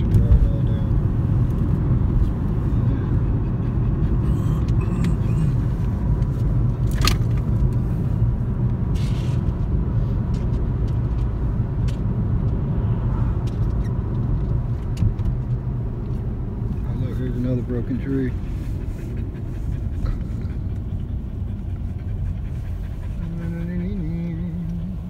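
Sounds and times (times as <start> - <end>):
car driving rumble: 0.0 - 25.0.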